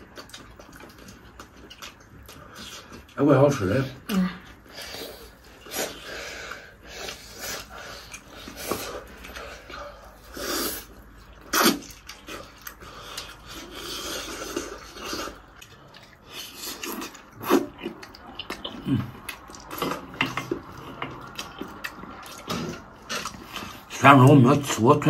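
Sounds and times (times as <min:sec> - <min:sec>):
people chewing meat: 0:00.0 - 0:25.0.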